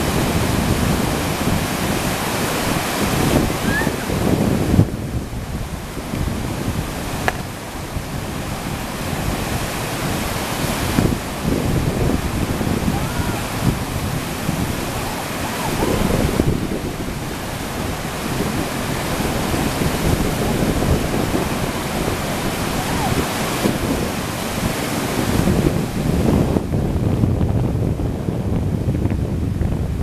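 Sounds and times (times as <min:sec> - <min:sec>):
whitewater rapid roaring: 0:00.0 - 0:28.8.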